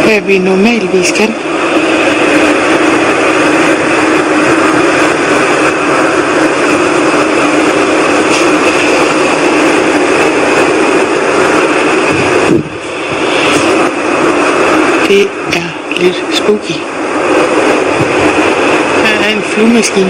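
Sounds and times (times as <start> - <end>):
whooshing rumble in the sky: 0.3 - 20.0.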